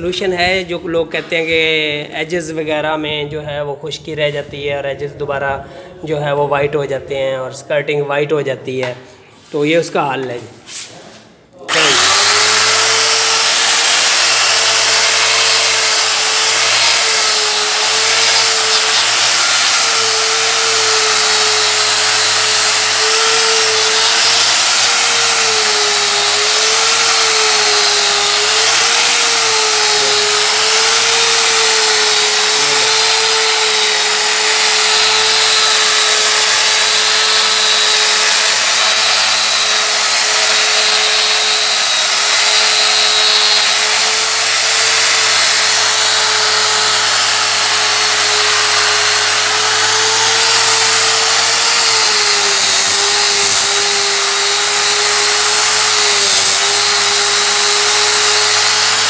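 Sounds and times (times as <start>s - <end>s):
angle grinder polishing floor: 11.6s - 59.0s.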